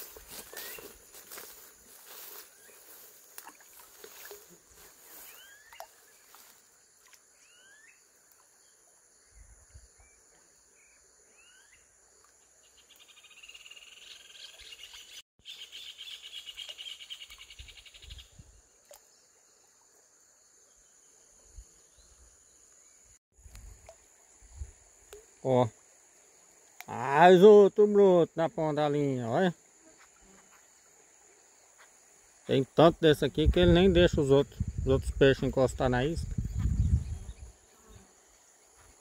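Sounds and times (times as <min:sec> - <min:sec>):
high insect drone: 0:00.0 - 0:14.3, 0:18.6 - 0:39.0.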